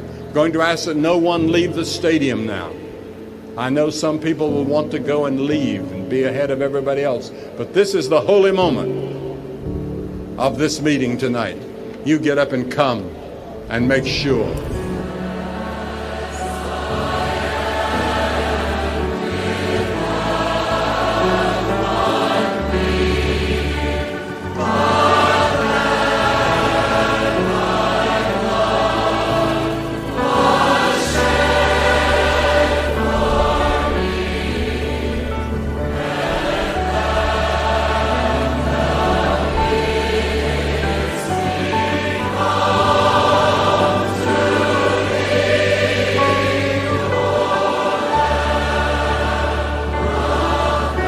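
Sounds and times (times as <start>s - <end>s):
choir singing a hymn: 0.0s - 51.0s.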